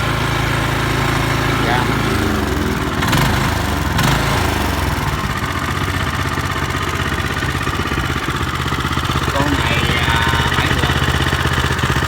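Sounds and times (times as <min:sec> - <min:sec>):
small tiller engine idling: 0:00.0 - 0:12.0.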